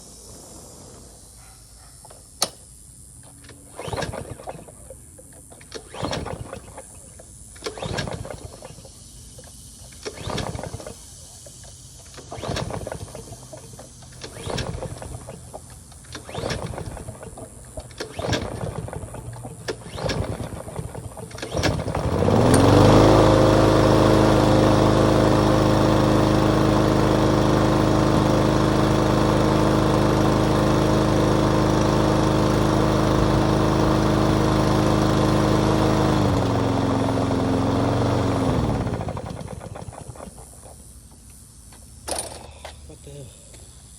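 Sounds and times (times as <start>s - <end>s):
recoil starter pulls: 2.0s - 43.7s
lawn mower engine running: 2.0s - 43.9s.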